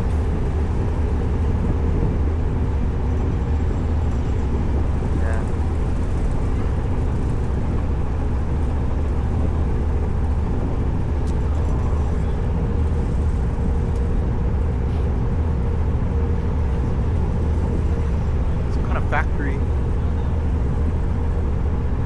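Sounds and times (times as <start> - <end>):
ship engines rumbling: 0.0 - 22.0
ship passing through water: 0.0 - 22.0.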